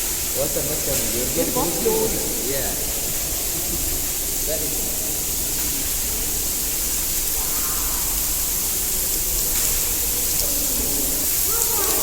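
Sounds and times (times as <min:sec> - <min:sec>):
heavy artificial rain pouring: 0:00.0 - 0:12.0.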